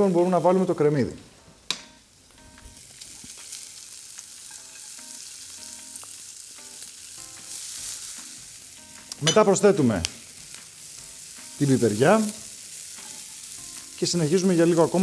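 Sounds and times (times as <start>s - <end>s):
bacon and onion sizzling in pan: 1.6s - 15.0s.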